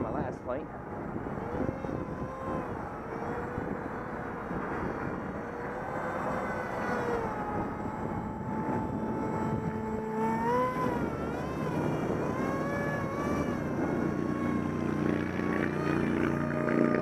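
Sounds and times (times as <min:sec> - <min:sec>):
electric motor whine: 0:00.0 - 0:17.0
rough wind noise: 0:00.0 - 0:17.0.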